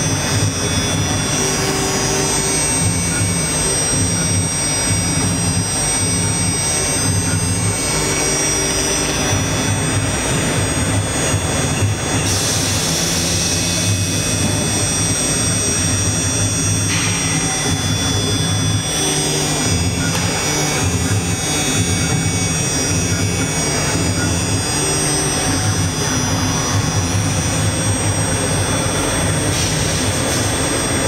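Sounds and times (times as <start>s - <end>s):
low machine hum: 0.0s - 31.0s
router spindle whine: 0.0s - 31.0s.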